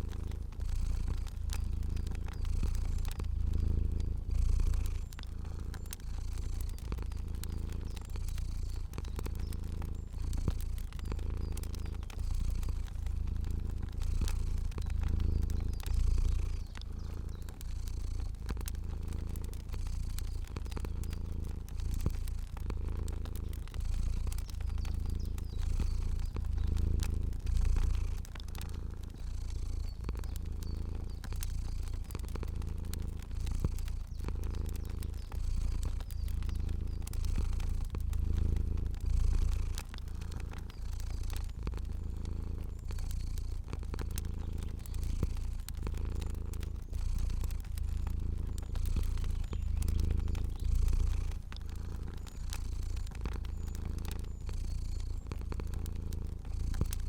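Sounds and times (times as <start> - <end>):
cat purring: 0.0 - 57.0
wood fire crackling: 0.0 - 57.0.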